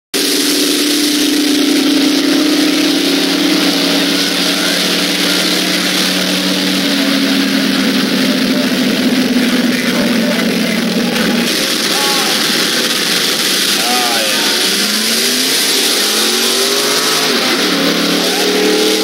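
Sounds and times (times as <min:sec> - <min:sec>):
racing car engines droning: 0:00.1 - 0:19.0.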